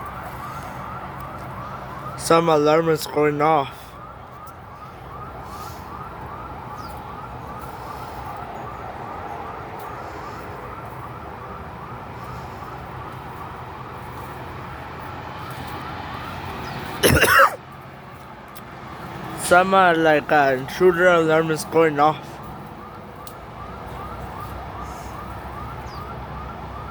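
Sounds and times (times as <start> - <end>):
alarm siren whooping: 0.0 - 16.8, 18.8 - 26.9.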